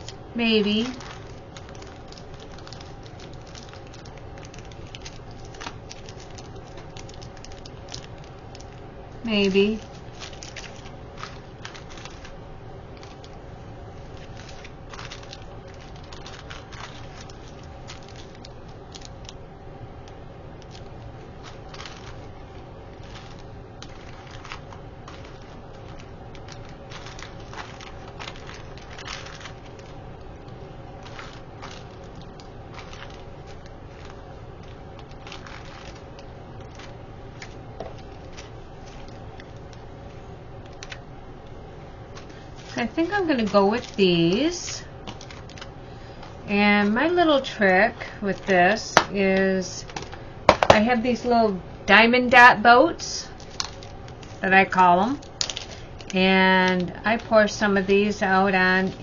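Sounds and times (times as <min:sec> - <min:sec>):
packets rustling: 0:00.0 - 0:19.4, 0:20.0 - 0:51.4, 0:53.2 - 0:59.0
faint steady hum: 0:00.0 - 0:59.0.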